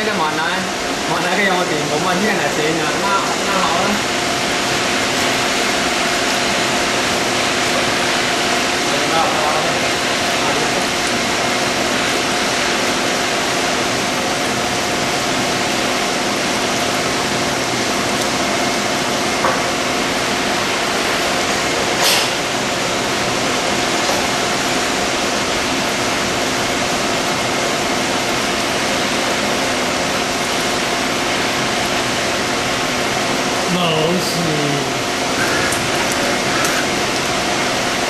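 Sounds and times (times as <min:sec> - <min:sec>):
coolant and cutting hiss: 0:00.0 - 0:38.0.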